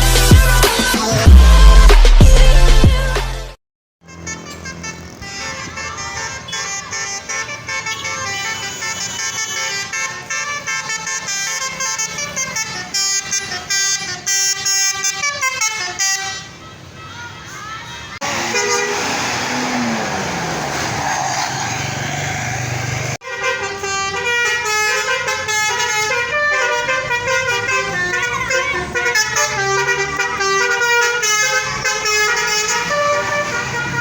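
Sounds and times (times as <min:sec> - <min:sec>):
multi-tone bus horn tune: 0:03.4 - 0:22.2, 0:22.8 - 0:34.0
bus passing by: 0:04.0 - 0:34.0.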